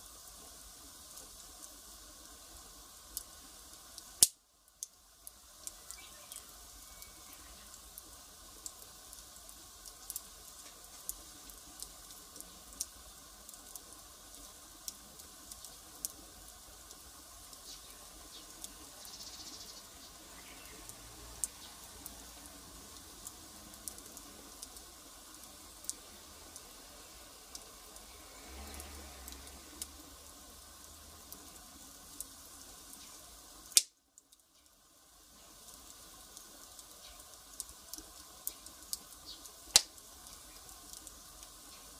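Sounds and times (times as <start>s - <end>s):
firewood crackling: 0.0s - 41.9s.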